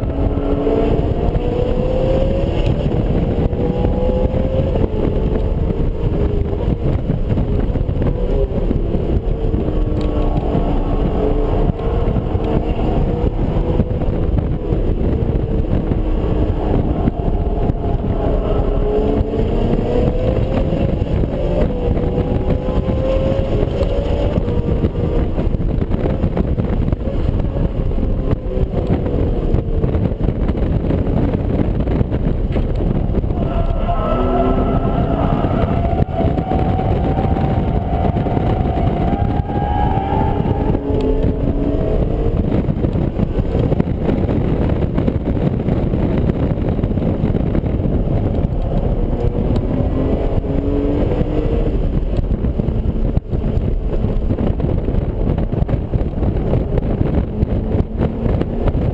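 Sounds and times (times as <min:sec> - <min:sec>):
car engine revving: 0:00.0 - 0:58.9
road and wind noise: 0:00.0 - 0:58.9.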